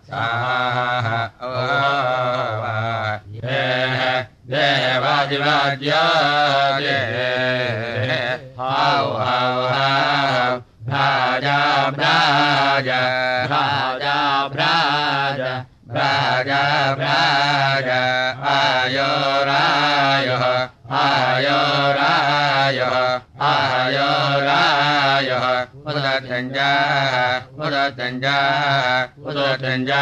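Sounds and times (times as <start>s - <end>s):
person chanting: 0.0s - 30.0s.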